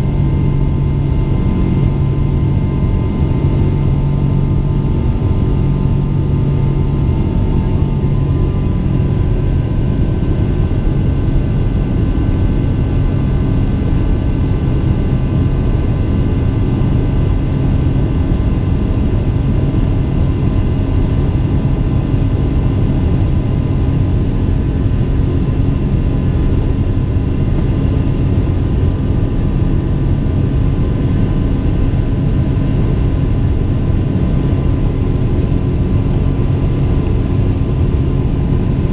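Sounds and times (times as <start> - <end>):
engine whine tones: 0.0 - 38.9.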